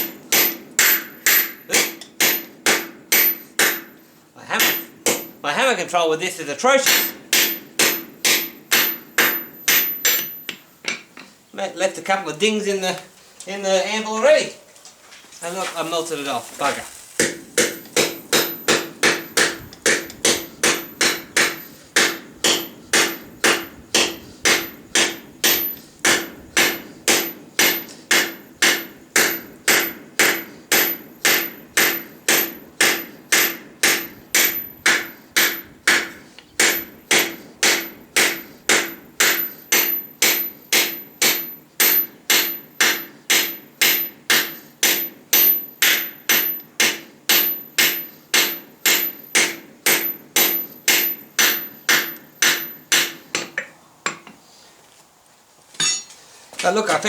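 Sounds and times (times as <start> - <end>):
hammer striking steel on anvil: 0.0 - 4.0, 4.6 - 5.4, 6.8 - 11.3, 17.2 - 54.4, 55.8 - 56.2.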